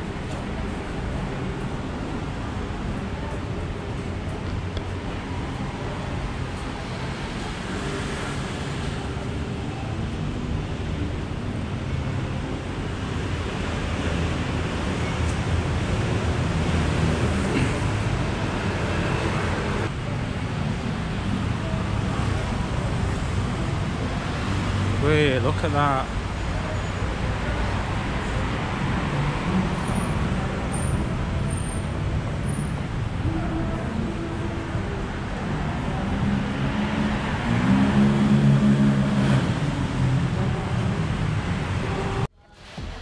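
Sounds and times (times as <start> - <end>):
passing traffic: 0.0 - 43.0.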